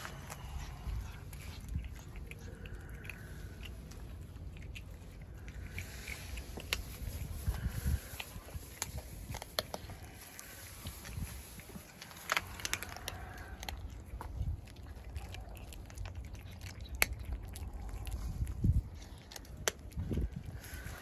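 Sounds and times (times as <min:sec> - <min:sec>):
cats crunching dry kibble: 0:00.0 - 0:21.0.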